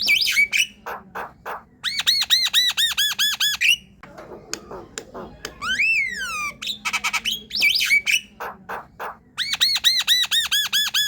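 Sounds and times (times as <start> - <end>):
bird chattering and whistling: 0.0 - 11.0.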